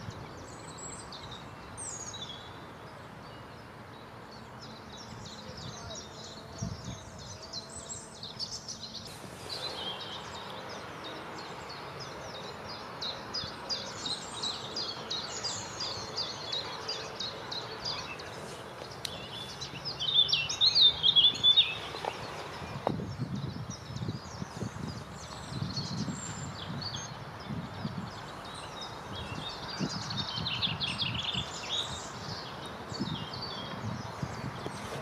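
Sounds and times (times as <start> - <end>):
songbirds chirping and singing: 0.0 - 35.0.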